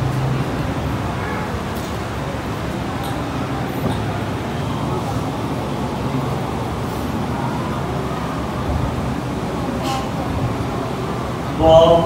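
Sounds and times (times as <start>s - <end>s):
murmur of congregation: 0.0s - 12.0s.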